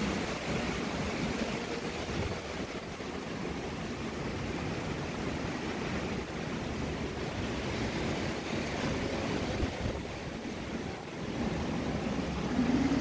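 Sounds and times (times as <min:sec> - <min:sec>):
wind buffeting microphone: 0:00.0 - 0:13.0
wind rushing through trees: 0:00.0 - 0:13.0.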